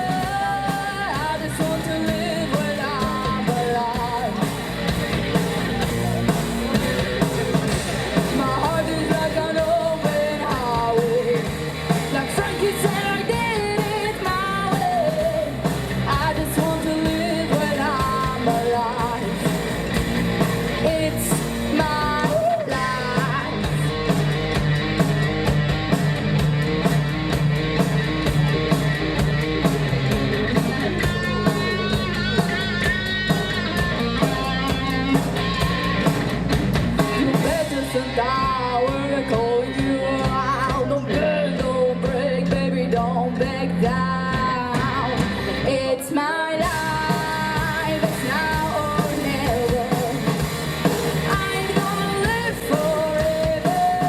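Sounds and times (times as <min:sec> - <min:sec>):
live rock band playing: 0:00.0 - 0:54.0
wavering lead guitar line: 0:00.0 - 0:54.0.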